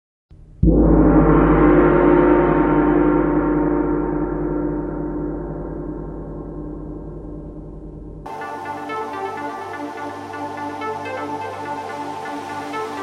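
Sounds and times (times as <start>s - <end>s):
deep struck ringing hit: 0.4s - 13.0s.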